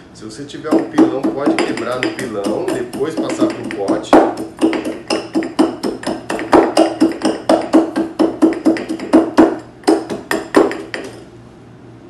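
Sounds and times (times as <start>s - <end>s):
muddler knocking in glass jar: 0.7s - 11.2s.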